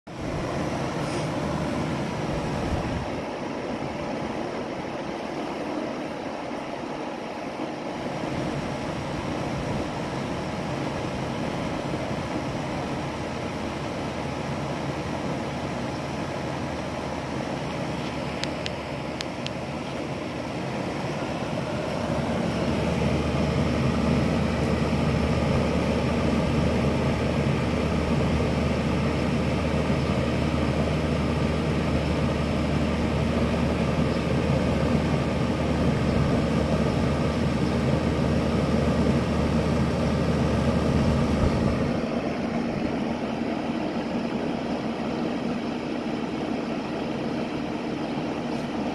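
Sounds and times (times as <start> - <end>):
compressor humming: 0.0 - 48.9
machine noise: 0.1 - 48.9.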